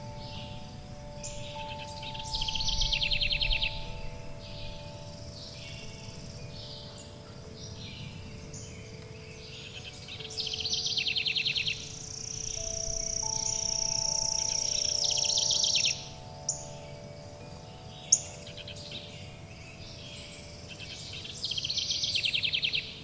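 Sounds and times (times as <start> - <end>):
birds chirping and singing: 0.0 - 23.0
wind chimes ringing: 0.0 - 23.0.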